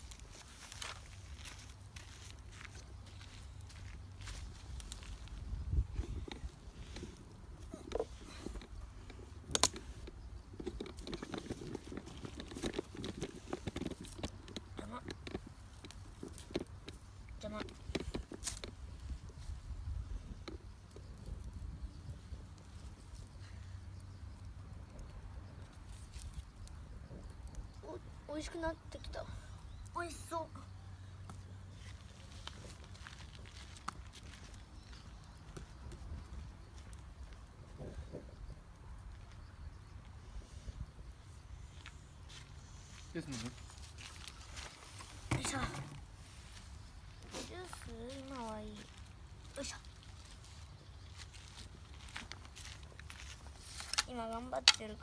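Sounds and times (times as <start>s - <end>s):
campfire crackling: 0.0s - 55.0s
low fire rumble: 0.0s - 55.0s.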